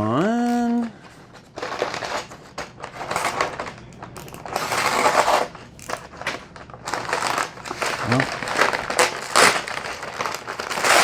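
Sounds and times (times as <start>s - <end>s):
packaging rustling and crinkling: 0.6s - 11.0s.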